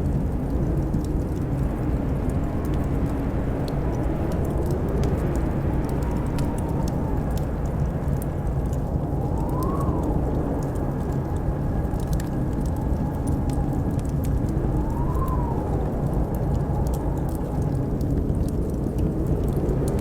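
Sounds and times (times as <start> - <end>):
blizzard wind roaring and howling: 0.0 - 20.0
wood fire crackling: 0.0 - 20.0.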